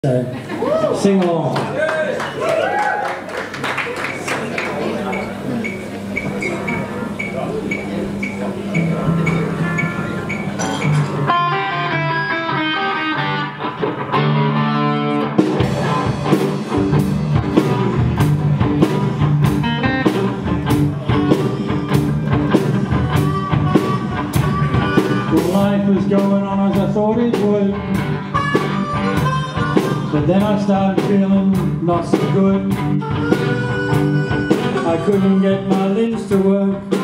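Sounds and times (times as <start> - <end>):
blues guitar: 4.0 - 37.0
bass guitar: 5.1 - 37.0
drums: 5.7 - 37.0.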